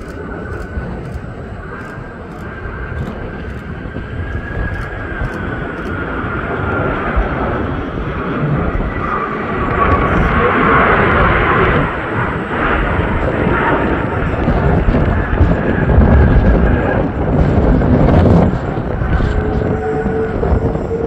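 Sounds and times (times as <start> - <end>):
jet airliner engines rumbling and whining: 0.0 - 21.0.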